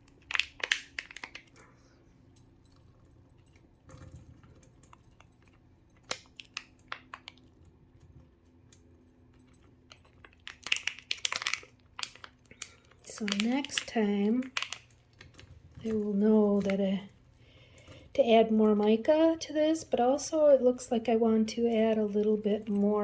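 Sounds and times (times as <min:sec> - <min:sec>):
crinkling: 0:00.0 - 0:20.7
faint steady hum: 0:00.0 - 0:23.0.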